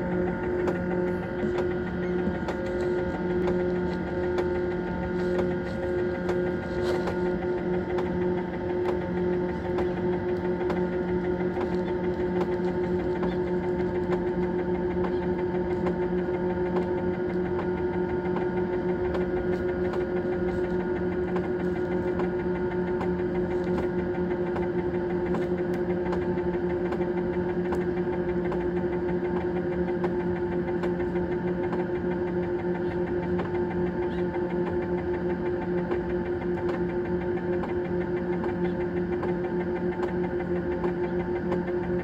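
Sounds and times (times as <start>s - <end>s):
fan motor humming: 0.0s - 42.0s.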